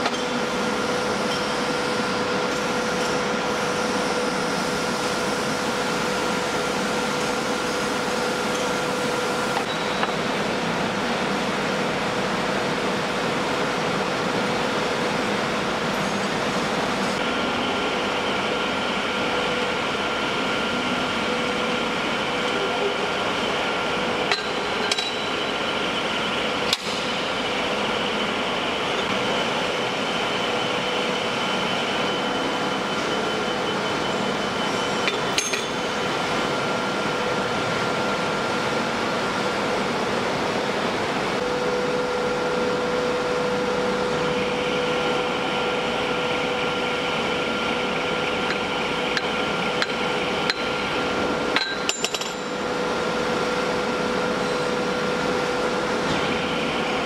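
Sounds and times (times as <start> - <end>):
workshop machinery hum: 0.0 - 57.0.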